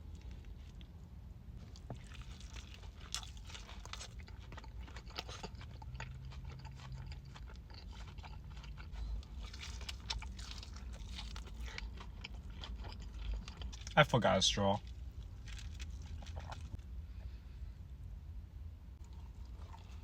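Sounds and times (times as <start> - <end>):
person chewing crunchy food: 1.6 - 17.3, 19.0 - 20.0.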